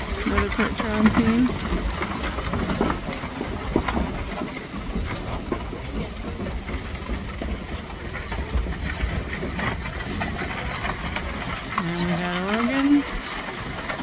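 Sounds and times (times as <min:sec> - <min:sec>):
horse hooves clopping: 0:00.0 - 0:14.0
wagon wheels rumbling: 0:00.0 - 0:14.0.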